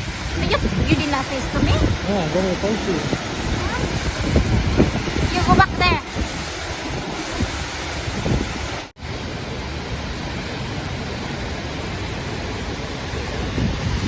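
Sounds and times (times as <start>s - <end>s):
waterfall rushing: 0.0s - 14.0s
wind buffeting microphone: 0.0s - 14.0s.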